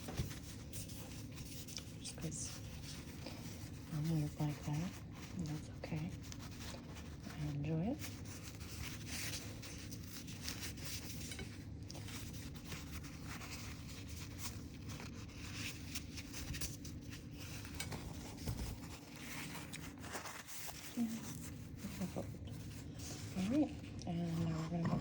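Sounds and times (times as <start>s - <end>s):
low room hum: 0.0s - 25.0s
napkin rustling: 0.0s - 25.0s.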